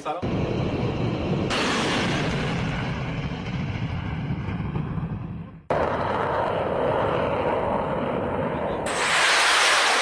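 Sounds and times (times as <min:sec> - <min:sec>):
high-pitched jet engine noise: 0:00.2 - 0:10.0
jet engine noise: 0:00.2 - 0:10.0.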